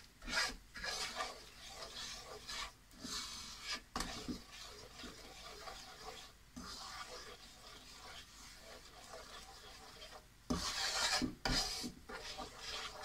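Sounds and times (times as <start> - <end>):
wooden spoon scraping frying pan: 0.0 - 13.0.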